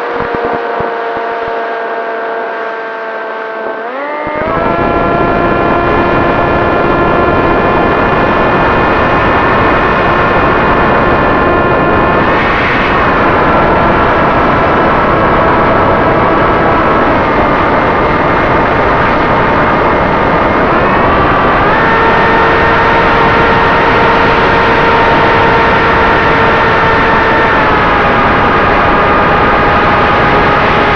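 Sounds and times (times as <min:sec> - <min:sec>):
electric motor and propeller whining: 0:00.0 - 0:30.9
wind rush: 0:04.2 - 0:30.9.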